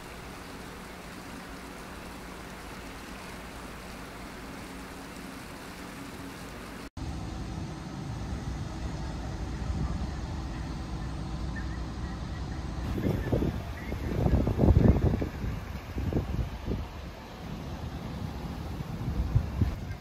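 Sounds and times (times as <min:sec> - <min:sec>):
faint low ferry drone: 0:00.0 - 0:20.0
low rumble of wind and traffic: 0:00.0 - 0:20.0
wind and water hiss: 0:00.0 - 0:20.0.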